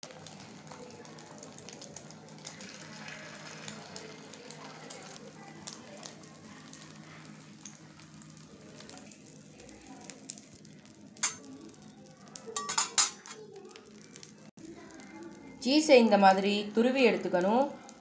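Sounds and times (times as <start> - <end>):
egg sizzling in oil: 0.0 - 18.0.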